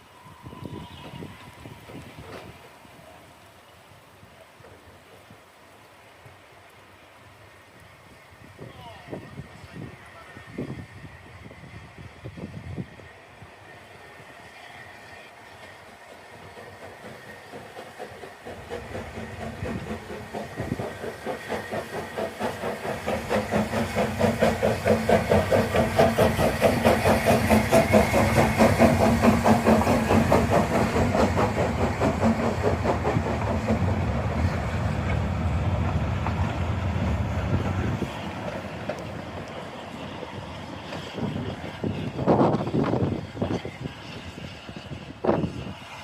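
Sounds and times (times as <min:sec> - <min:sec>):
steam train running past: 0:00.0 - 0:46.0.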